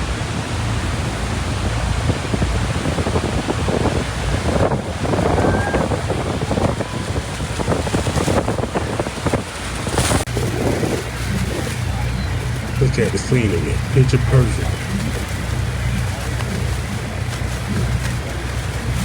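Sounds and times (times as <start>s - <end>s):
waterfall roaring: 0.0s - 19.0s
wind buffeting microphone: 0.0s - 19.0s.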